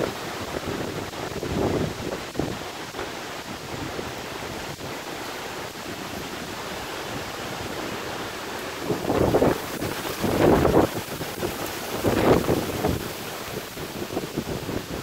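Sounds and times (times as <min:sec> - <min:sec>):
rain hissing: 0:00.0 - 0:15.0
wind gust buffeting microphone: 0:00.0 - 0:15.0.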